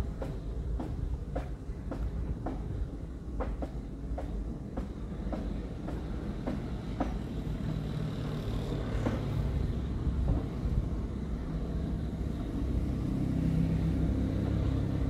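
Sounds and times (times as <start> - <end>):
train wheels clacking over rail joints: 0.0 - 12.9.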